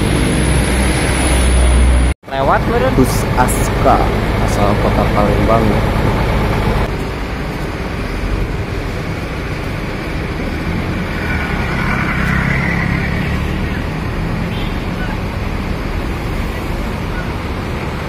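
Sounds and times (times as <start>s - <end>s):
bus diesel engine: 0.0s - 18.0s
steady traffic noise: 0.0s - 18.0s.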